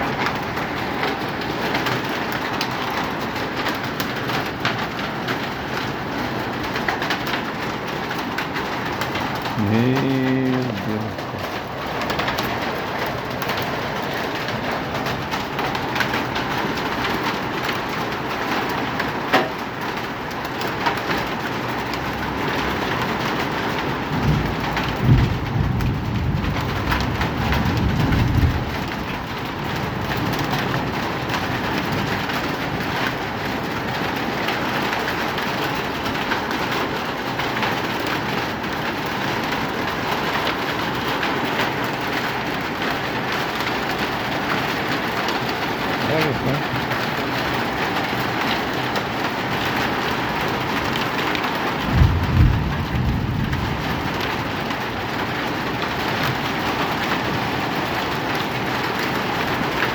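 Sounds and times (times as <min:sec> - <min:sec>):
heavy hail pelting: 0:00.0 - 0:59.9.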